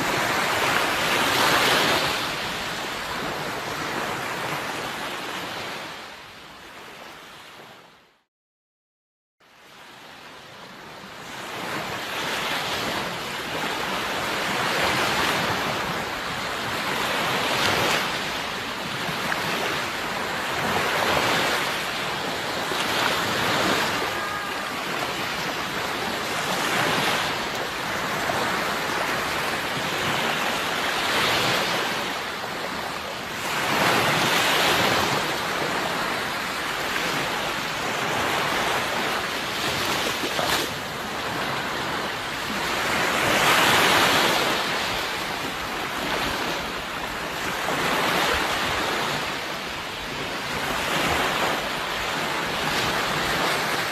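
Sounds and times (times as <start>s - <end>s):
sea waves washing on shore: 0.0s - 7.9s, 9.5s - 53.9s.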